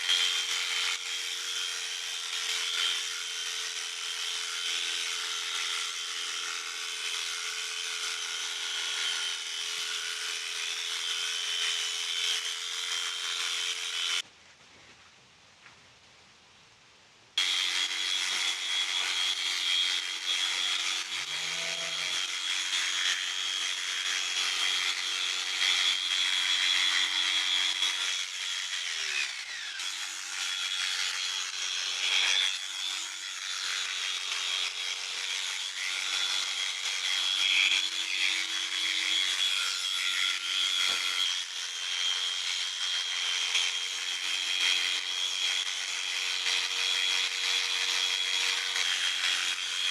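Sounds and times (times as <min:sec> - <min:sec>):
blades rasping through wool: 0:00.0 - 0:14.2, 0:17.4 - 0:49.9
electric shears whining: 0:00.0 - 0:14.2, 0:17.4 - 0:49.9.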